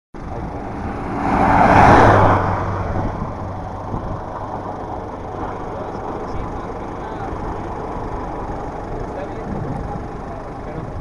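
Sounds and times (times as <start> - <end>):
rushing swell: 0.2 - 11.0
vehicle engine and road noise: 0.2 - 11.0.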